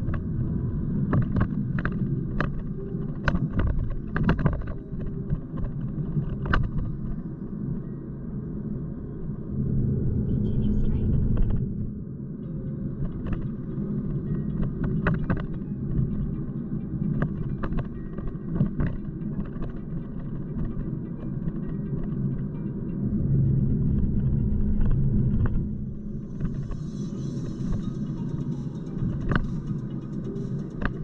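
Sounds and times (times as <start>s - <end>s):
engine and tyre rumble: 0.0s - 31.0s.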